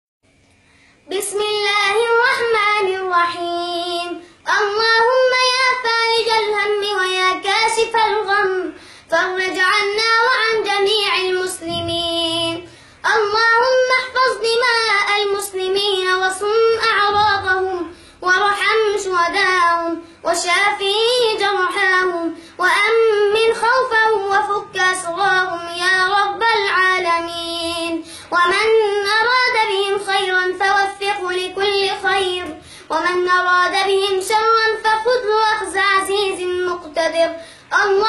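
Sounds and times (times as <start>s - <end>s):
boy chanting melodically: 1.0s - 38.0s.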